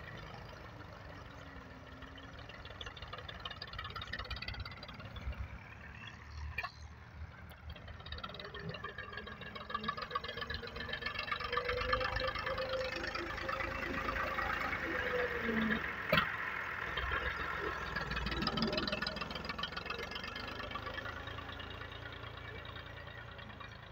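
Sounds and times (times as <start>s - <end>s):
tractor diesel engine under load: 0.0s - 23.9s.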